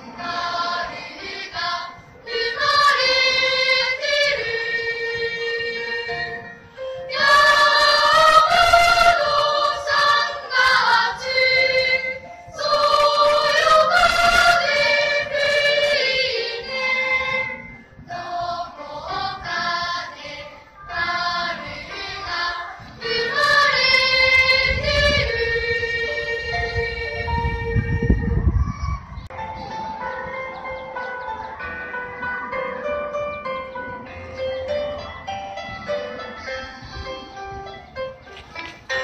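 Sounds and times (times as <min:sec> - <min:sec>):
children's choir singing: 0:00.0 - 0:28.3, 0:29.2 - 0:39.0.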